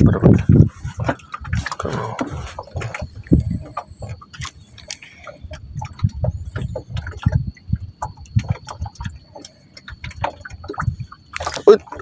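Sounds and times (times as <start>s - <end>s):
water slapping boat hull: 0.0s - 12.0s.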